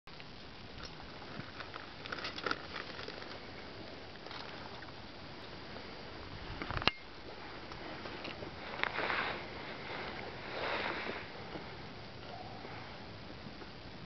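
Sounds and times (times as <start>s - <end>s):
faint steady hiss: 0.1s - 14.0s.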